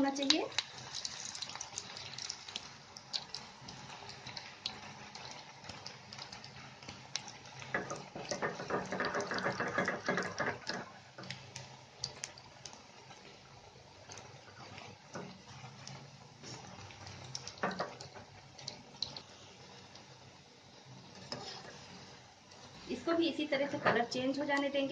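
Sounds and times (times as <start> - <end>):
oil sizzling with pops and crackles: 0.0 - 24.9.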